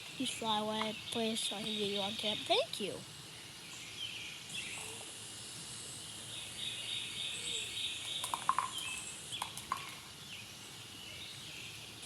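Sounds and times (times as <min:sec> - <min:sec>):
birds chirping: 0:00.0 - 0:05.2, 0:05.8 - 0:11.9.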